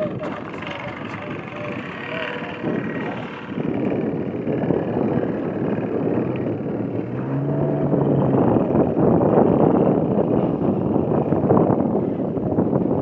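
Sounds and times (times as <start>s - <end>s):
boat engine running: 0.0s - 13.0s
wind noise: 0.0s - 13.0s.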